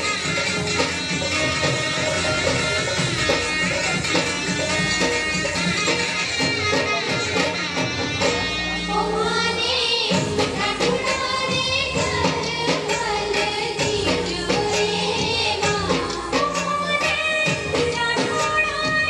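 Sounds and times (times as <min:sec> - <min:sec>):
steady drum beat: 0:00.0 - 0:19.0.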